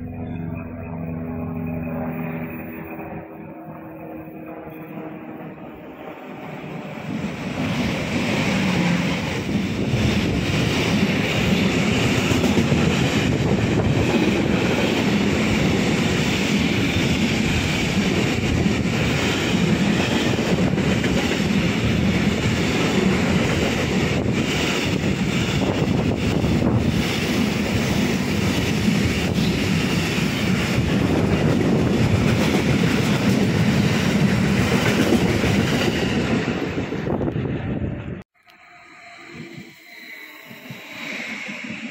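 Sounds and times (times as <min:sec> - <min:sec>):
train wheels running on rails: 0:01.6 - 0:38.2, 0:39.0 - 0:41.9.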